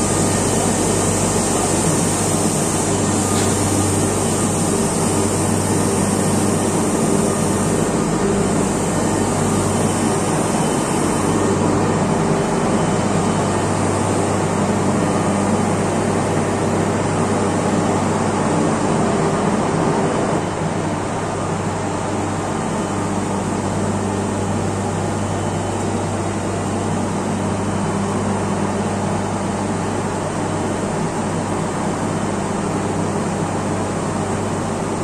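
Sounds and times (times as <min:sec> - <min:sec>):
turbine low hum: 0:00.0 - 0:28.8.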